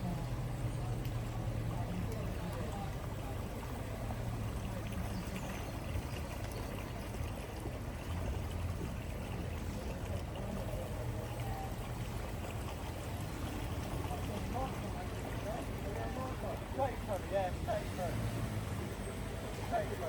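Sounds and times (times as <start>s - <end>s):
floodwater flowing over road: 0.0s - 20.0s.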